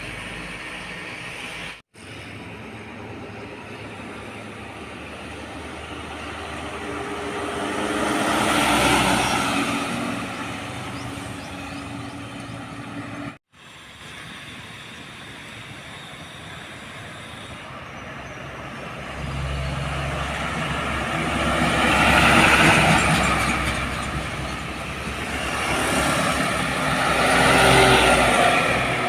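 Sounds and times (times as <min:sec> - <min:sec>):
heavy trucks passing: 0:00.0 - 0:29.0.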